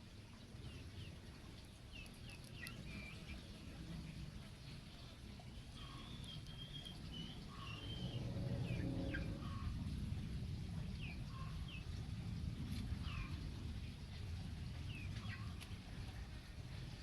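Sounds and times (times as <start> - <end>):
steady low rumble: 0.0 - 17.0
small birds chirping: 0.1 - 17.0.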